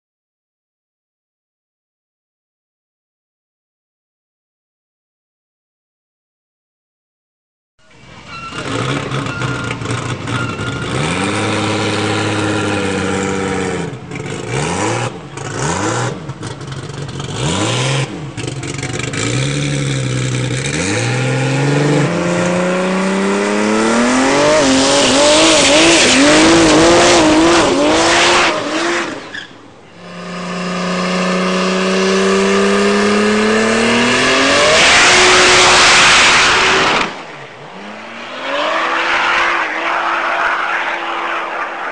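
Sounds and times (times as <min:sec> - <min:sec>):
car engine revving: 0:08.0 - 0:41.9.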